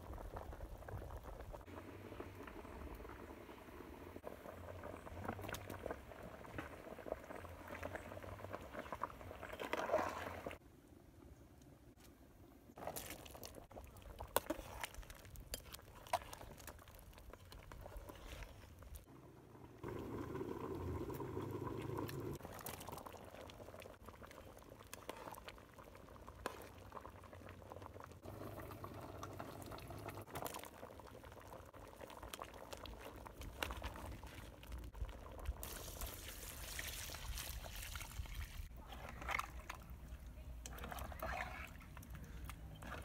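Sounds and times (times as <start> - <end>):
thick soup bubbling: 0.0 - 10.6, 12.6 - 43.0.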